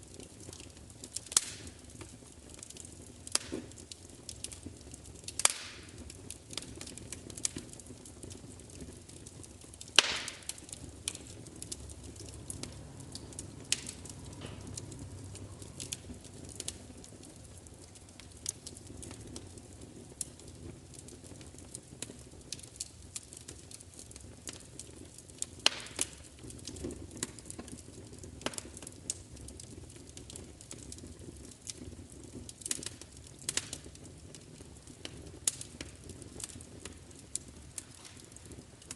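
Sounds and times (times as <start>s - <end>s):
fire crackling: 0.0s - 38.9s
loud fire pops: 0.0s - 38.9s
low rumble of flames: 0.0s - 38.9s.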